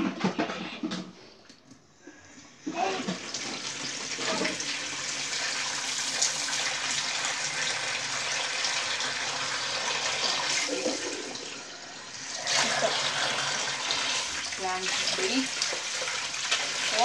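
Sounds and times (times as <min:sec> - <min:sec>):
water running from a tap: 0:02.7 - 0:17.0.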